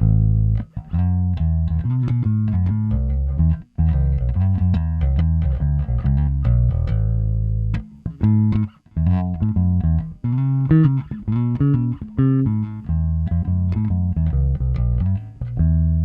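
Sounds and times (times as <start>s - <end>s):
electric bass plucked notes: 0.0s - 16.0s.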